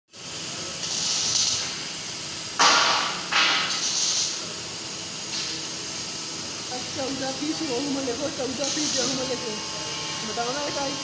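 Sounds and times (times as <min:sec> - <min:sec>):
cnc machine hissing: 0:00.2 - 0:11.0.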